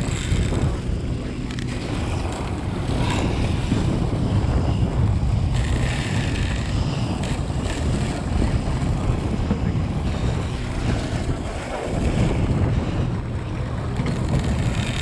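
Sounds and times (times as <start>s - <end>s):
sea water churning along hull: 0.0s - 15.0s
wind buffeting microphone: 0.0s - 15.0s.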